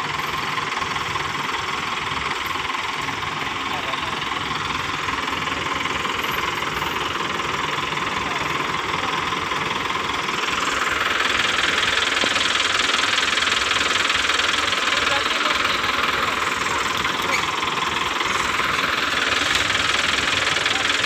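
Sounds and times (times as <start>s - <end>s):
diesel engine clattering: 0.0s - 21.0s.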